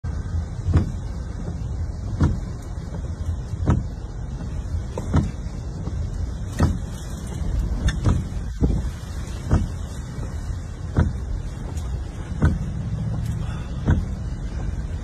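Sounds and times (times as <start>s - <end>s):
low rumble inside car: 0.0s - 15.0s
windshield wipers sweeping glass: 0.1s - 15.0s.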